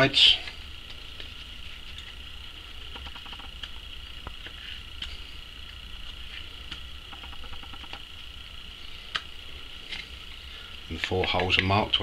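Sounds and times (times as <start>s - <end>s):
high-pitched insect buzz: 0.0s - 11.0s.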